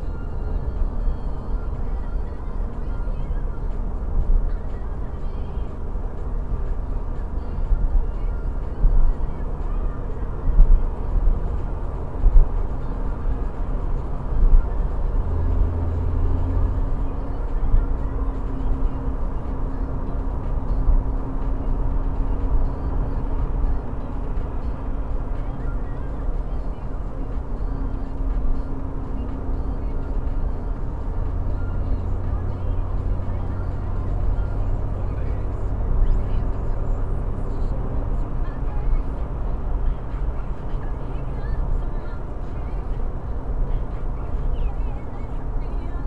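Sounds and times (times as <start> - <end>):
car cabin road and engine noise: 0.0 - 46.0.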